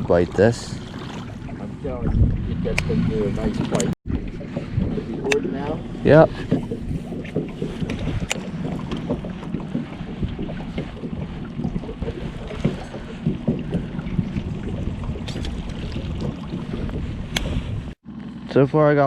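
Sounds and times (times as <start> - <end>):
water rumbling against boat: 0.0 - 18.0
wind buffeting microphone: 0.0 - 18.0.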